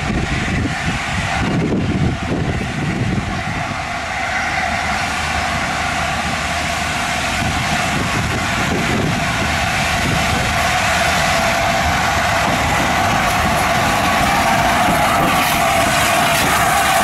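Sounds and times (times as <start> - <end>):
steam train rumbling: 0.0 - 17.0.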